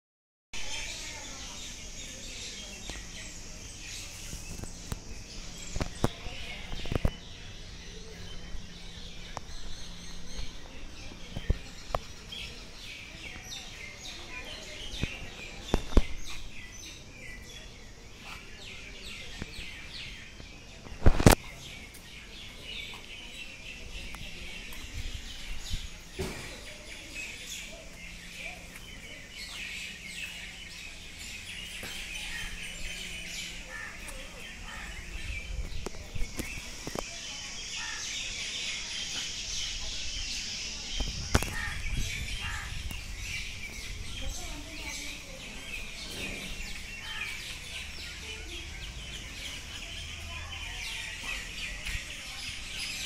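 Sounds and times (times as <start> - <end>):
outdoor background noise: 0.5 - 53.0
birds chirping: 0.6 - 53.0.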